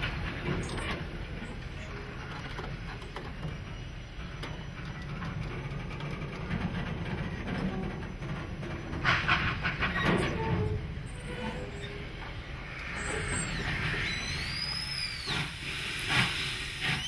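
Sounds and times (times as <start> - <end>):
railway wagons rumbling on track: 0.0 - 17.0.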